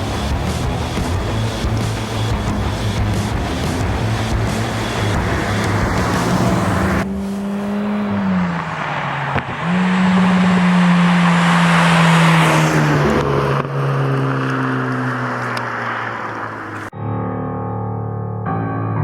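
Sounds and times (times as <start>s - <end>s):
car engine and exhaust under load: 0.0s - 16.9s.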